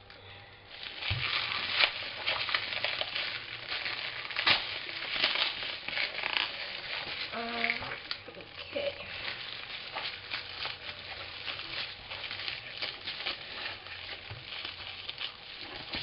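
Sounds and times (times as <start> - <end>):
plastic packaging tearing: 0.7 - 16.0.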